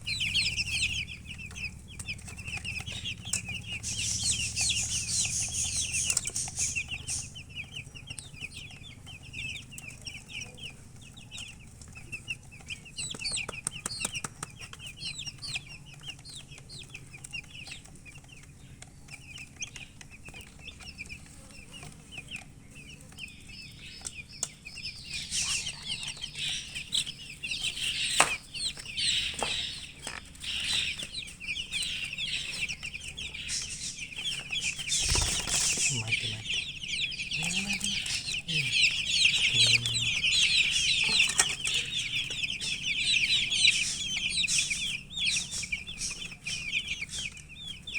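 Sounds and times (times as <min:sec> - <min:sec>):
baby chicks peeping: 0:00.0 - 0:47.9.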